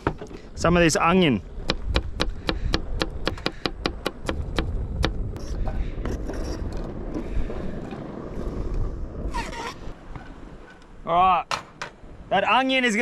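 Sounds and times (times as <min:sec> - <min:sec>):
wind on microphone: 0:00.0 - 0:11.4.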